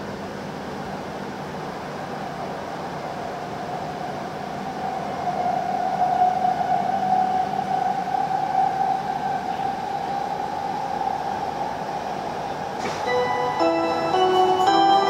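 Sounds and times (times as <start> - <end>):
train cabin hiss with high whine: 0.0 - 15.0.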